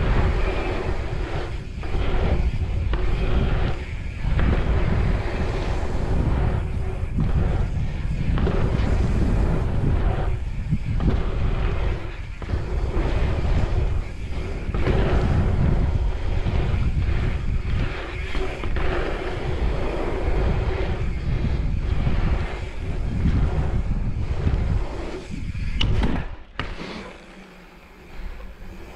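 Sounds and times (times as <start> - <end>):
wind buffeting microphone: 0.0 - 26.6
wheels rumbling on asphalt: 0.0 - 28.9.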